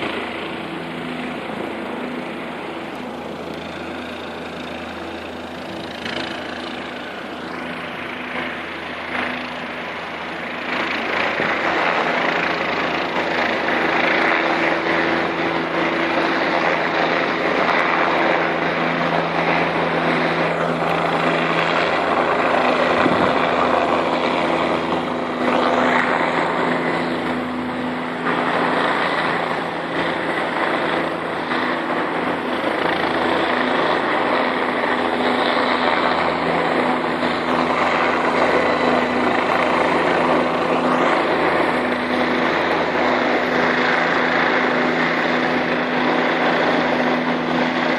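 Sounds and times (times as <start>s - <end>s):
helicopter rotor and engine: 0.0s - 47.9s.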